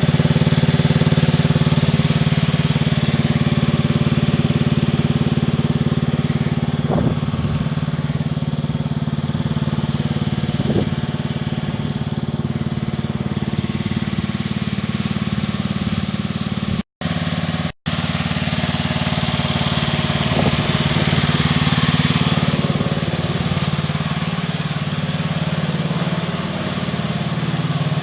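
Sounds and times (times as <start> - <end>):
lawn tractor engine running: 0.0 - 28.0.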